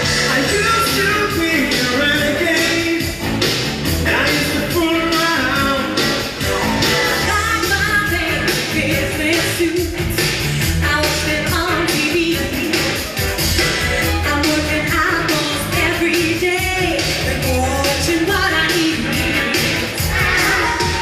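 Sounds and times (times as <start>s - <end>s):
band playing: 0.0s - 21.0s
person singing rock and roll: 0.0s - 21.0s
steady drum beat: 0.0s - 21.0s.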